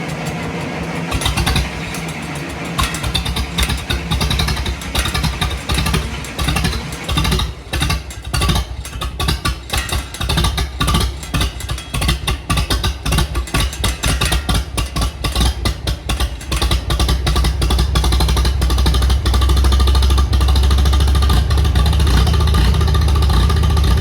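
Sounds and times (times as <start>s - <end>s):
tractor engine pulsing: 0.0s - 24.0s.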